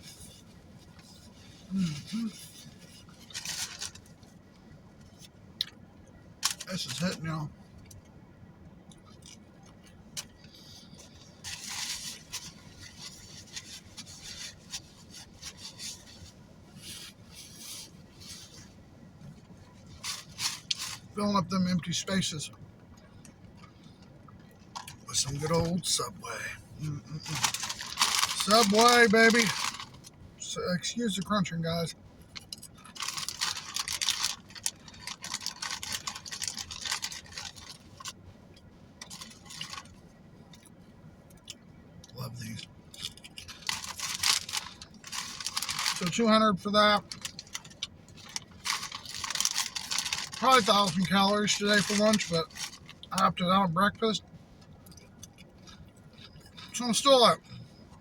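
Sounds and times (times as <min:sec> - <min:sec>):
crinkly rustling: 0:00.0 - 0:05.4, 0:06.4 - 0:07.4, 0:09.0 - 0:22.4, 0:23.0 - 0:30.2, 0:31.2 - 0:40.7, 0:42.4 - 0:53.4, 0:54.6 - 0:58.0.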